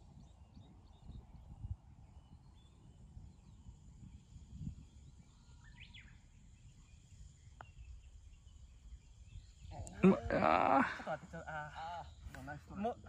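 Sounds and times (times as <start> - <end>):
wind rumble on microphone: 0.0 - 11.0
bird chirp: 0.0 - 13.0.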